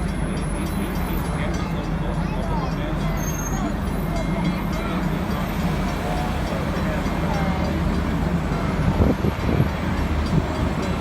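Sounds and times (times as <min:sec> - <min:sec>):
steam train rumbling past: 0:00.0 - 0:11.0.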